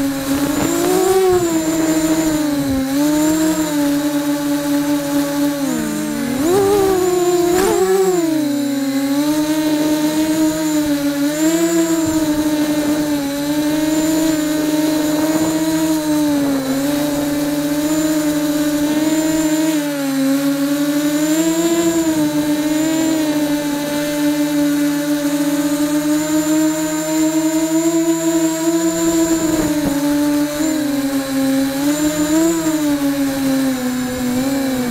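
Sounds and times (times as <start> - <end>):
drone motors whining: 0.0 - 34.9.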